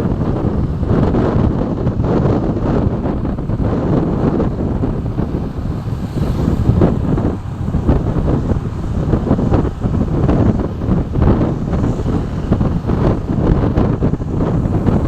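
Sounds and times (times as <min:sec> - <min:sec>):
vehicle rumble: 0:00.0 - 0:15.0
wind buffeting microphone: 0:00.0 - 0:15.0.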